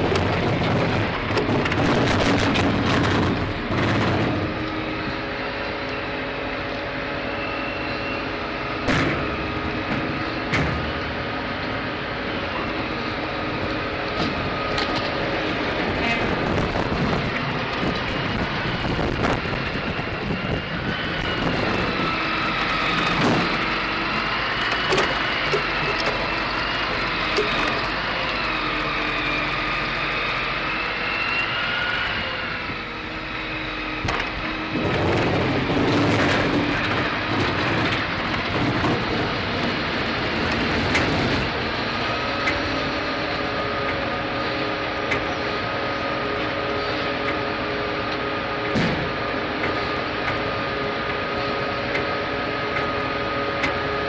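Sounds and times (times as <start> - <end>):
hydraulic crane whine: 0.0 - 54.0
wood chipper machine noise: 0.0 - 54.0.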